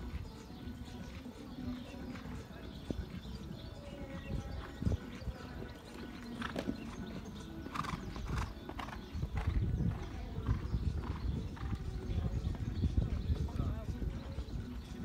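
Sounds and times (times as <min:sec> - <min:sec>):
horse hoofbeats on sand: 0:00.0 - 0:15.0.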